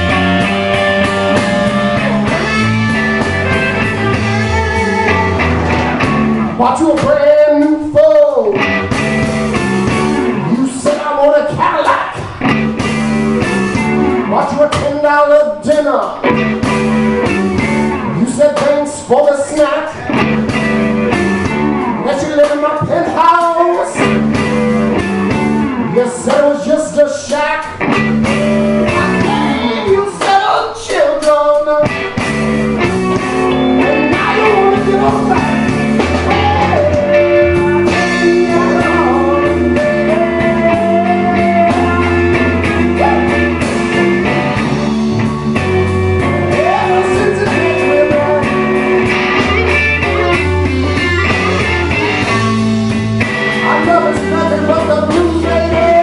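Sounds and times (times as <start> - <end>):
live blues band playing: 0.0 - 56.0.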